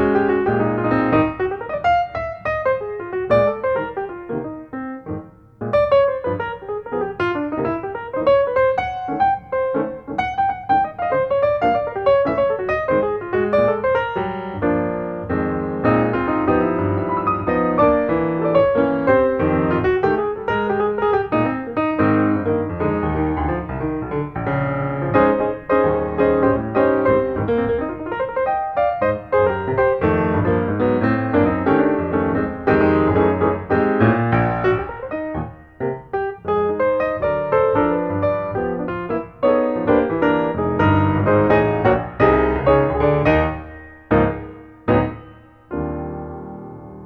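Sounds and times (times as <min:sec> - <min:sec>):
solo piano: 0:00.0 - 0:47.0.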